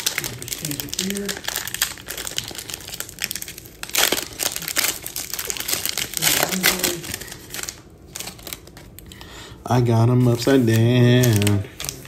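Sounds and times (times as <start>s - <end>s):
foil wrapper tearing and crinkling: 0.0s - 9.0s, 10.2s - 12.0s.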